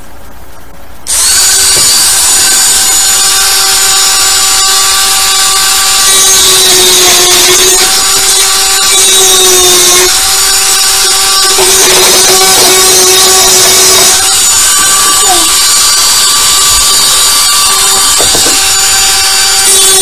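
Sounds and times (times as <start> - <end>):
rotary tool whining: 1.0 - 20.0.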